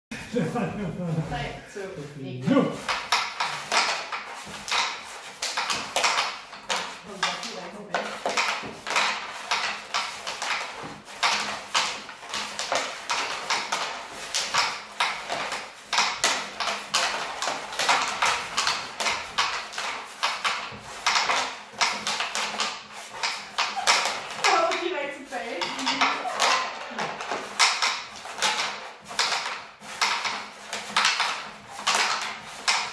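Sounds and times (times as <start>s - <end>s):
wooden pucks clacking: 2.5s - 32.9s.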